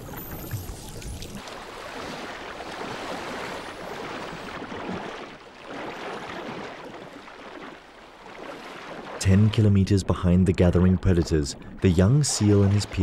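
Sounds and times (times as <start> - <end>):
water splashing and rushing: 0.0 - 13.0.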